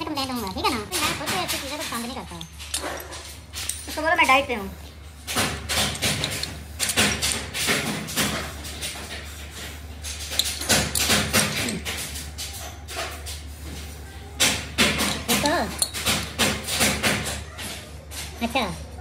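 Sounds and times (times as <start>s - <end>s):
metal parts clinking and clattering: 0.0s - 13.8s, 14.4s - 18.6s.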